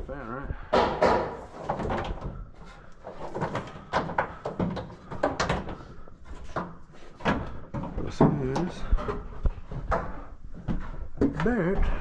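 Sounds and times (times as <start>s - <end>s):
objects knocking and clattering: 0.6s - 12.0s.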